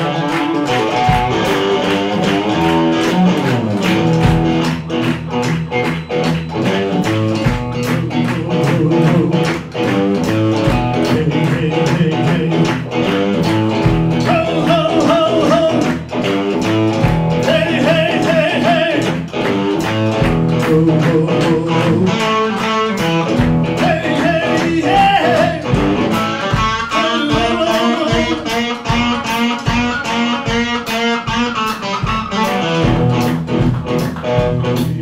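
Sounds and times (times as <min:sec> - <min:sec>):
driving electric guitar: 0:00.0 - 0:35.0
drums keeping a steady beat: 0:00.0 - 0:35.0.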